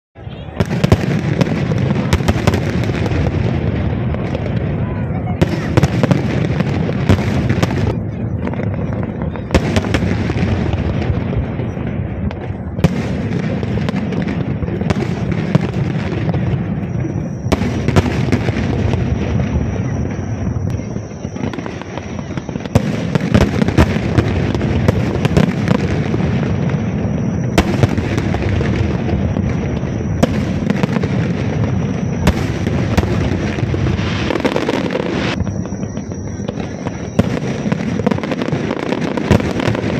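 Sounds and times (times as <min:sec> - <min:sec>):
fireworks bursting: 0:00.2 - 0:39.9.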